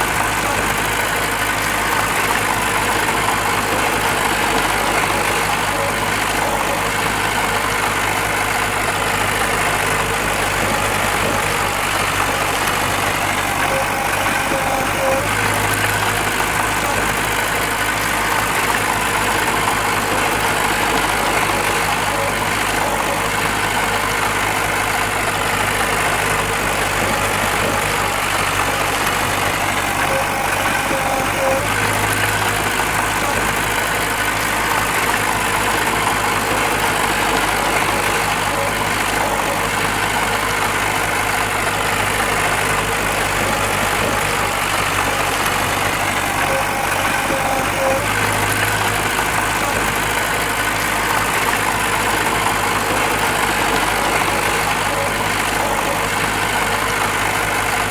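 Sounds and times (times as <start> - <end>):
diesel earthmoving machinery running: 0.0 - 57.9.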